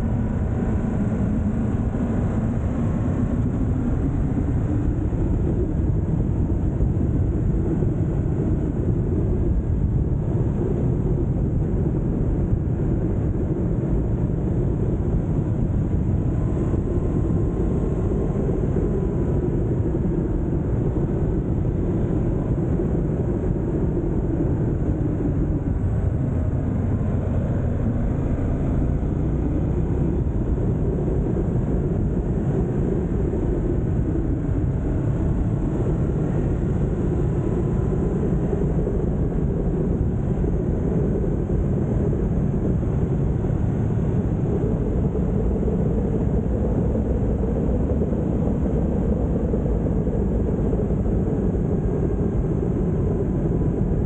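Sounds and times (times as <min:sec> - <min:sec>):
motorcycle engine and wind rush: 0:00.0 - 0:54.0.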